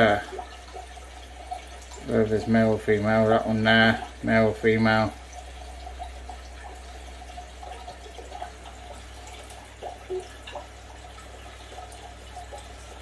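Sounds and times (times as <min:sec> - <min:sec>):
bubbling plinks: 0:00.0 - 0:13.0
water trickling and dripping: 0:00.0 - 0:13.0.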